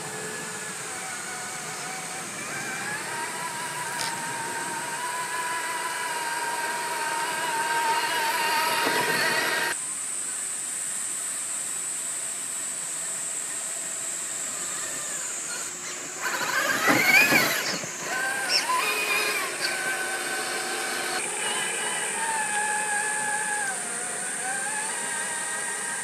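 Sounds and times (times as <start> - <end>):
electric motor and gearbox whine: 0.0 - 26.0
steady high hiss: 0.0 - 26.0.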